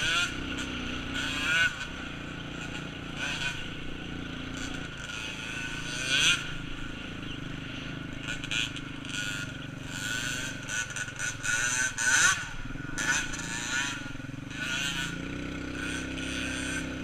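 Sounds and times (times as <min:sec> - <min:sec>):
small off-road engine running: 0:00.0 - 0:17.0.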